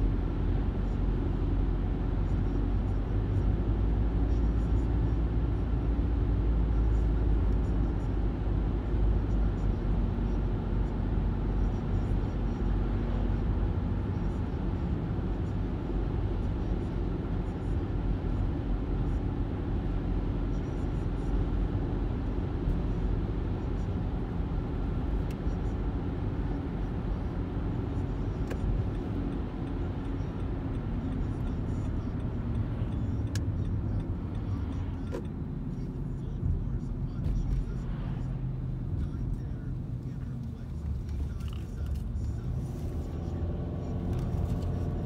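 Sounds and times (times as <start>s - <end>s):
road and engine noise inside car: 0.0s - 45.0s.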